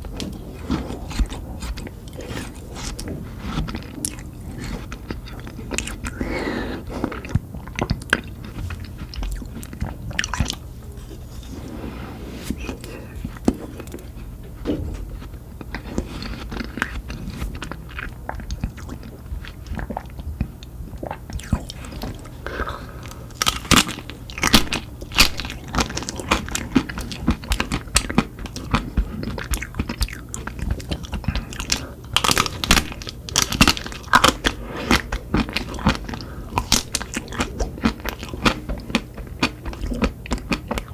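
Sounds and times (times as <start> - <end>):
ice cream crunching: 0.0 - 11.5, 12.6 - 40.9.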